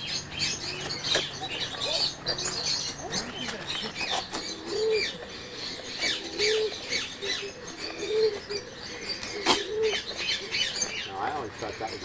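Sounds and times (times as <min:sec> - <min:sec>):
dove cooing: 0:00.0 - 0:12.0
small birds chirping: 0:00.0 - 0:12.0.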